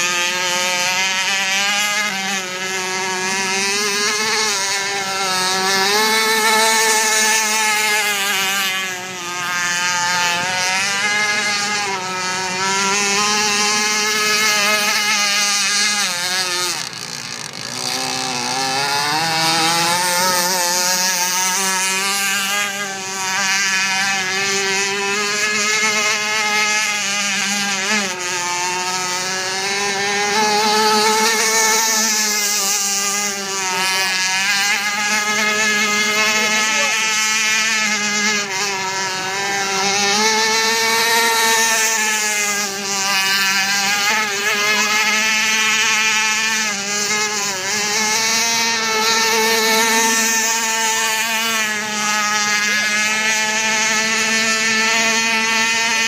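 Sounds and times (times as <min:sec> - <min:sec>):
radio-controlled boat motor whine: 0:00.0 - 0:56.0.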